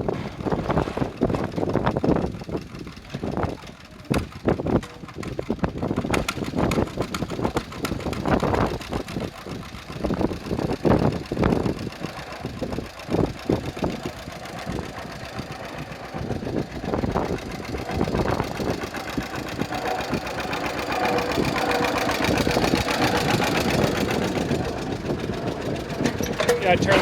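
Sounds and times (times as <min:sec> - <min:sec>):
two-cylinder engine running: 0:00.0 - 0:27.0.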